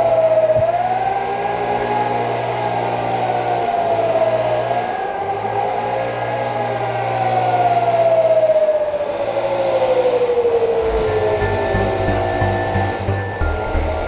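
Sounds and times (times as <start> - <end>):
civil defence siren wailing: 0.0 - 14.0.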